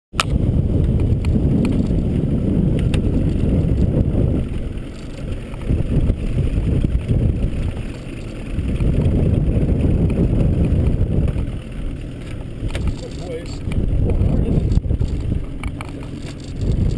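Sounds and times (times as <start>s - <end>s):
wind buffeting microphone: 0.2s - 16.9s.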